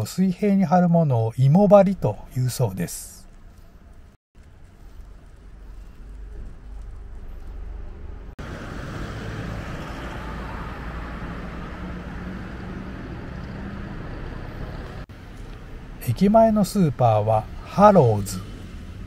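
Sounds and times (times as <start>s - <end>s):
cars going by: 3.3s - 19.0s.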